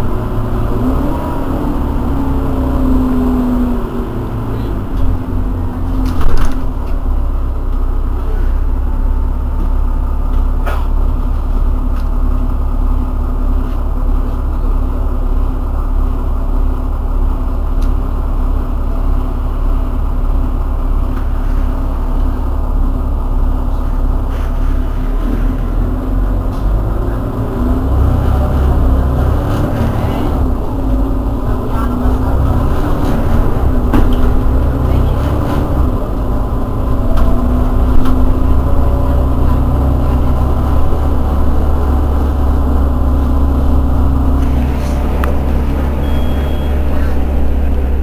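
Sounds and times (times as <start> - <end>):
bus engine idling: 0.0 - 48.0.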